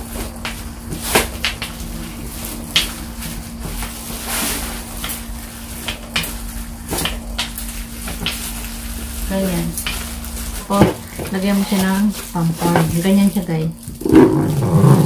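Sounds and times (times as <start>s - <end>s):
rolling pin on dough: 0.0s - 13.3s
steady low hum: 0.0s - 15.0s.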